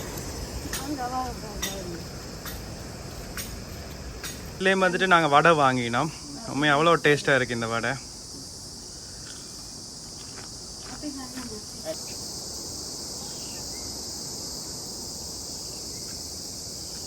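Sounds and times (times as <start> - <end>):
insects shrilling: 0.0 - 17.0.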